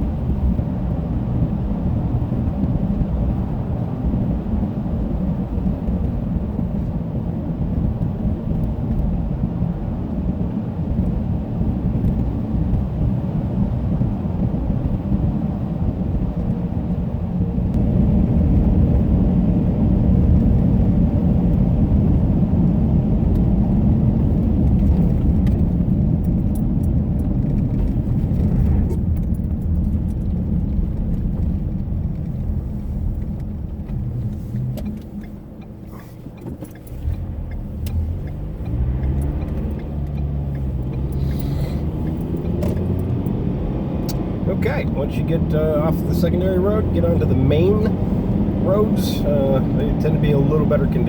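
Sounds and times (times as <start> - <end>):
tires and engine rumble: 0.0 - 51.0.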